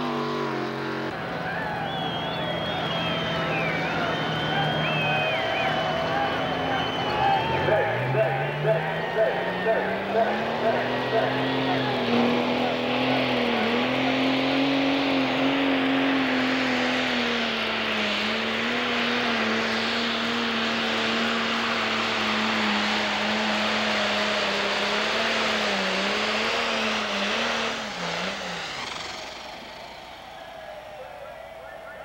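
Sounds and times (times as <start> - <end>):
diesel tractor engine at full throttle: 0.0 - 32.0.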